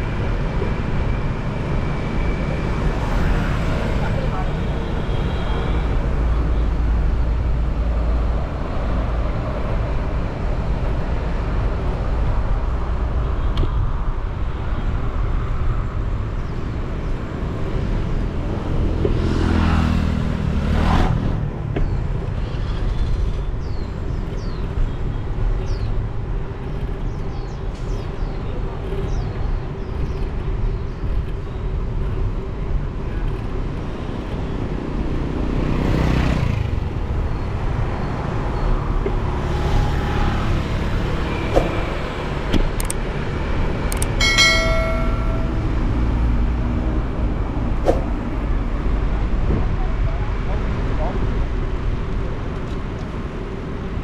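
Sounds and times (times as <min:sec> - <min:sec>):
motorcycle engine and road rumble: 0:00.0 - 0:54.0.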